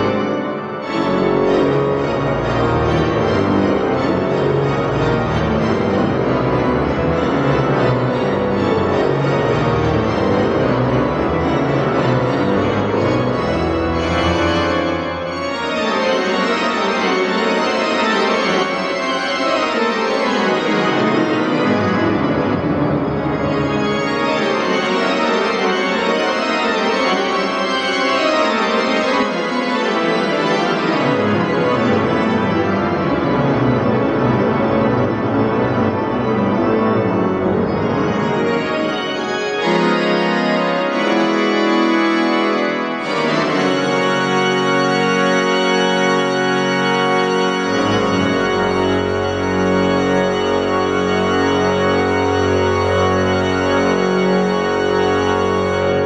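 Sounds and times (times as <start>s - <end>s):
pipe organ playing loudly: 0.0s - 56.0s.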